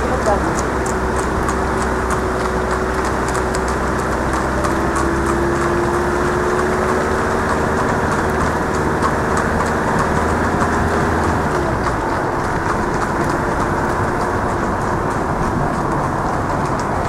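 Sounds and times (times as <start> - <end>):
hoofbeats on wet tarmac: 0.0 - 17.0
vehicle engines running: 0.0 - 17.0.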